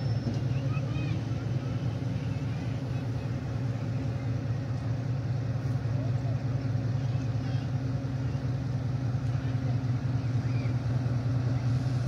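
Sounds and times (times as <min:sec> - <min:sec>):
locomotive engine low drone: 0:00.0 - 0:12.0.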